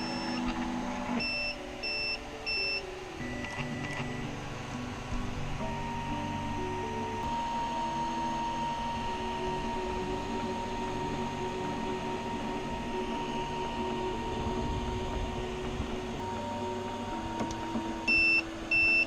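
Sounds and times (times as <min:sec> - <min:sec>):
steady high tone: 0:00.0 - 0:19.0
stepper motors whining: 0:00.0 - 0:19.0.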